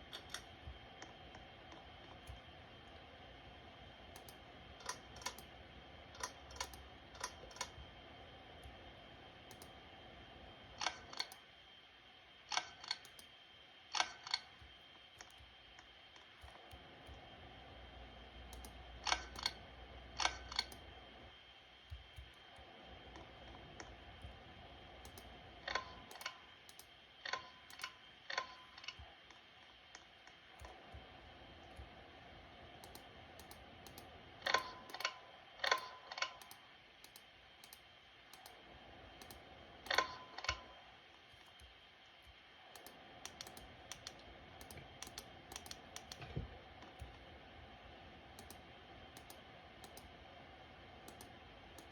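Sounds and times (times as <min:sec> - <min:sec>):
ceiling fan humming: 0:00.0 - 0:51.9.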